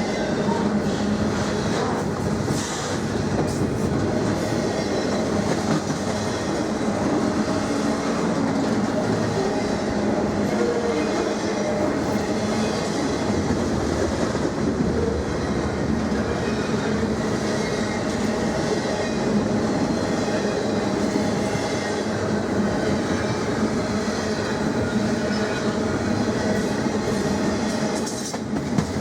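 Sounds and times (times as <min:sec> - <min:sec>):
freight train wheels on rails: 0:00.0 - 0:29.0.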